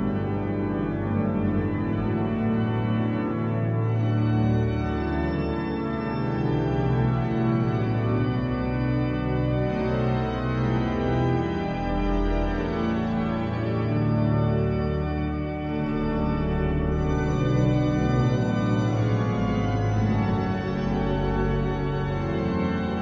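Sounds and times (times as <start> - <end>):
pipe organ playing chords: 0.0 - 23.0.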